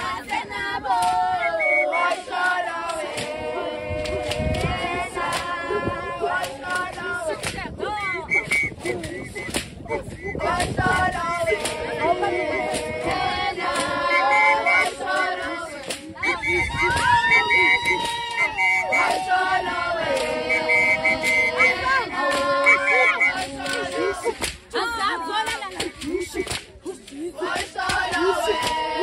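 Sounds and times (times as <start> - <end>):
group singing unaccompanied: 0.0 - 29.0.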